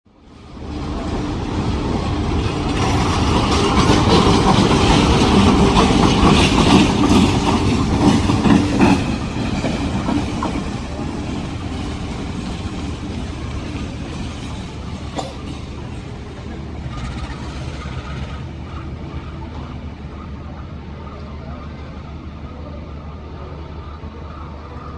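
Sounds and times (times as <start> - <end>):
train wheels clattering on rails: 0.6 - 24.9.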